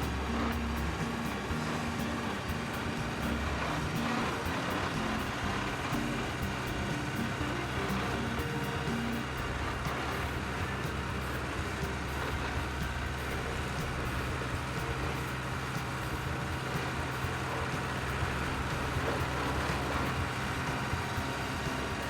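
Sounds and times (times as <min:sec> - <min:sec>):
large vehicle engine running: 0:00.0 - 0:22.0.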